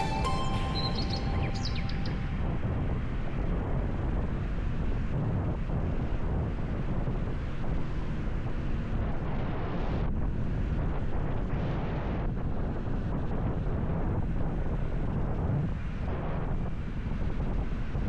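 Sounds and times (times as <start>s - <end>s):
wind buffeting microphone: 2.1s - 18.0s.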